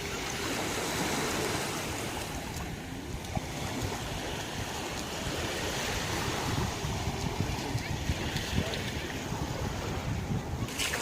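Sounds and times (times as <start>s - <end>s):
sea waves washing on beach: 0.0s - 11.0s.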